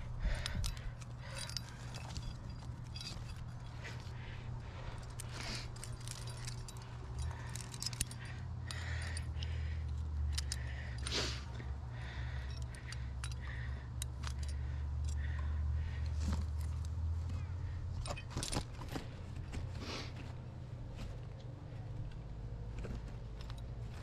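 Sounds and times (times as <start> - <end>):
climbing gear clinking and jangling: 0.0 - 19.8, 20.4 - 24.0
steady low rumble: 0.0 - 24.0.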